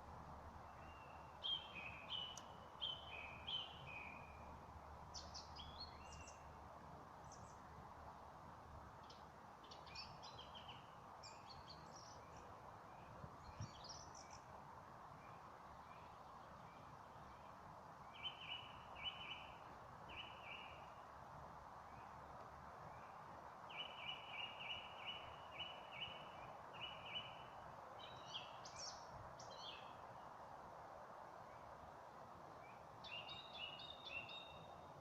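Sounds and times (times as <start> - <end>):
faint hiss: 0.0 - 35.0.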